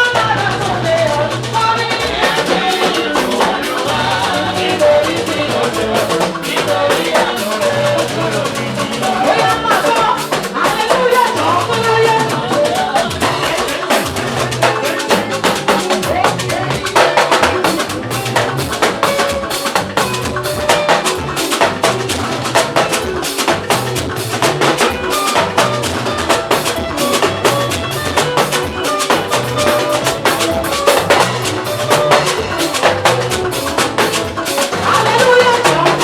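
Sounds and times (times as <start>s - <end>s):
bass line: 0.0s - 36.0s
drum kit and percussion beat: 0.0s - 36.0s.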